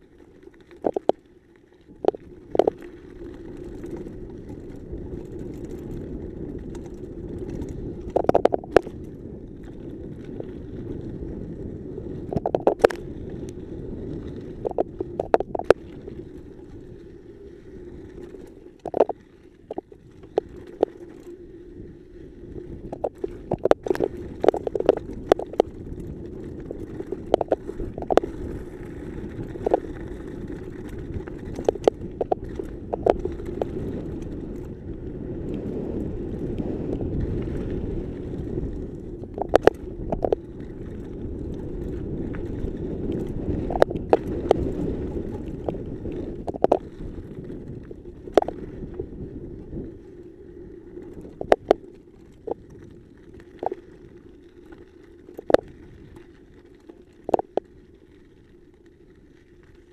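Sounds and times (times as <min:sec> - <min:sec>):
bike rattling over bumps: 0:00.0 - 0:59.9
tyres and wind rumble: 0:00.0 - 0:59.9.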